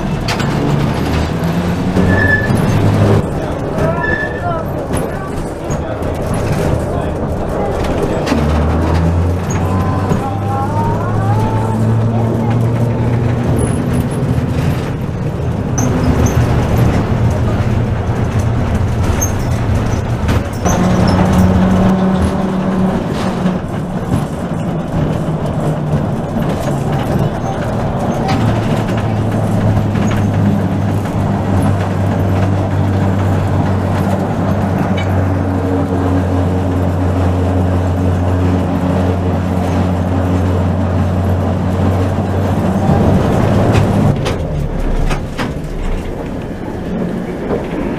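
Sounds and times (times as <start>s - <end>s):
tram motor hum: 0.0s - 47.9s
wheels rumbling on rails: 0.0s - 47.9s.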